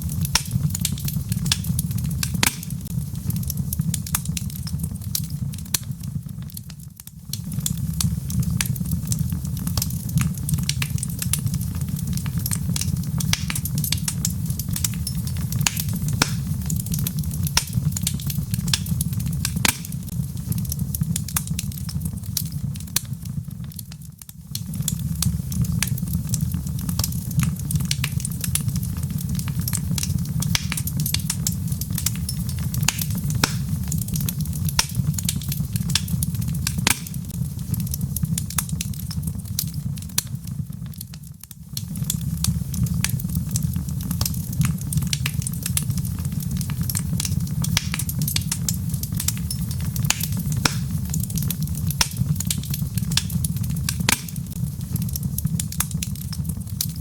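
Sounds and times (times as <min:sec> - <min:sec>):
fire roaring: 0:00.0 - 0:57.0
logs crackling and popping: 0:00.0 - 0:57.0.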